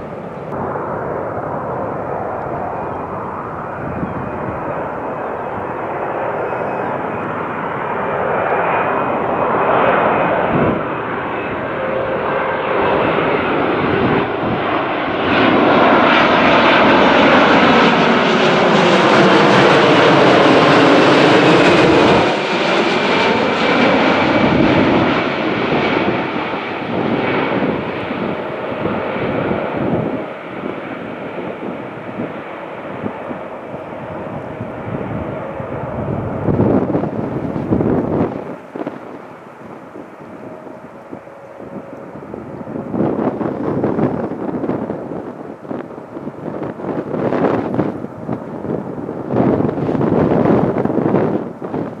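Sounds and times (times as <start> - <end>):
jet airliner passing overhead: 0.0 - 52.0.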